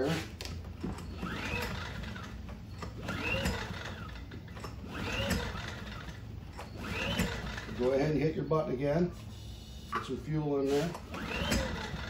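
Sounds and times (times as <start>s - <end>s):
generator engine cranking: 0.0s - 9.0s, 9.9s - 12.0s.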